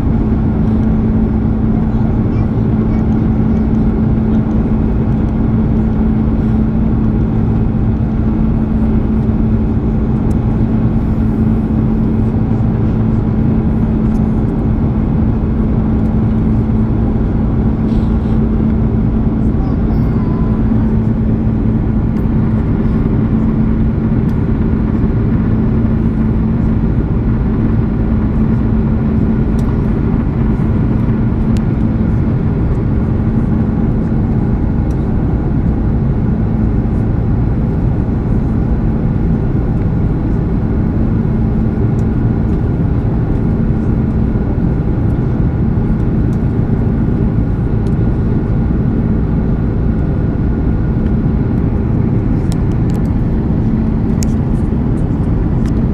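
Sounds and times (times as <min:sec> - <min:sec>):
aircraft cabin engine rush: 0:00.0 - 0:55.9
steady low hum: 0:00.0 - 0:55.9.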